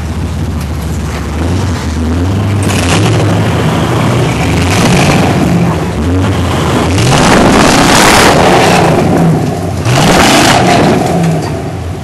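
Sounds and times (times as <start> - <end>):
engine revving: 1.0 - 11.8.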